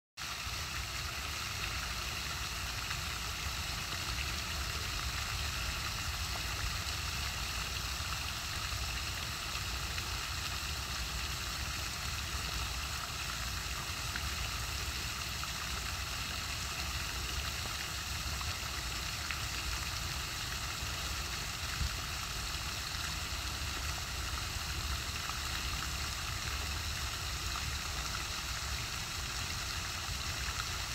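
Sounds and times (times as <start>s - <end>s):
fountain spray splashing: 0.2s - 30.9s.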